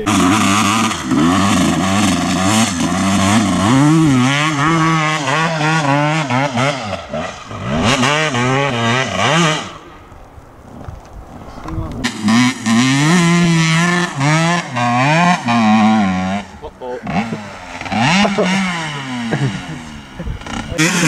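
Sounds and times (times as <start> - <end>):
motocross bike engine revving: 0.0 - 10.2, 11.9 - 21.0.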